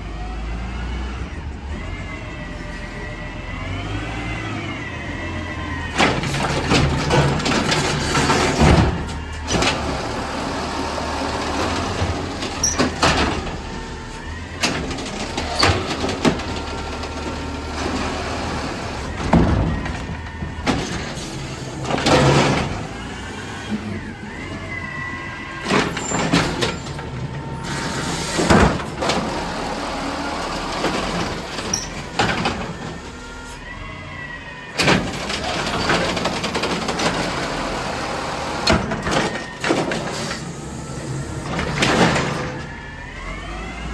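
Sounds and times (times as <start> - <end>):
diesel engine running: 0.0 - 43.9
garbage truck clanks and bangs: 2.5 - 43.9.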